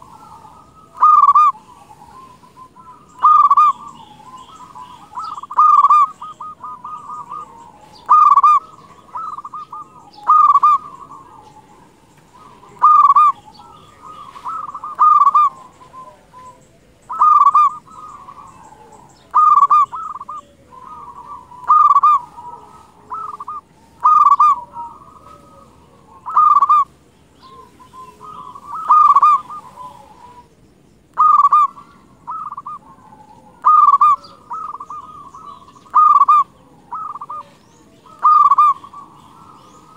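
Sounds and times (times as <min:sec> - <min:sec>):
dove cooing: 0:00.0 - 0:30.5, 0:31.1 - 0:39.9.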